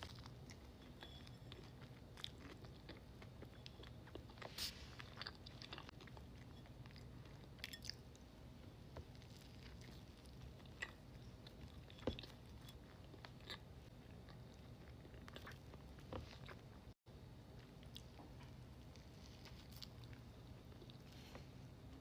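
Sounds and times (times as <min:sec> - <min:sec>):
person chewing food: 0:00.0 - 0:17.0, 0:17.6 - 0:21.6
low steady hum: 0:00.0 - 0:22.0.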